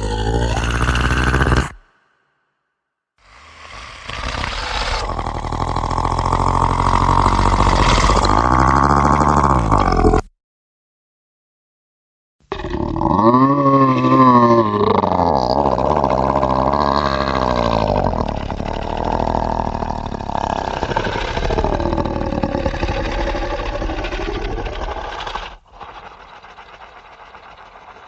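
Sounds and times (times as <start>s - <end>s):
creature roar and growl: 0.0s - 2.2s, 3.3s - 10.3s, 12.5s - 28.0s.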